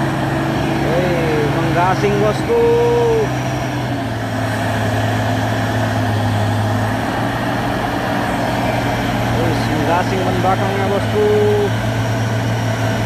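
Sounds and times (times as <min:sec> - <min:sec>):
truck diesel engine under load: 0:00.0 - 0:13.0
wheels spinning on slick road: 0:00.0 - 0:13.0.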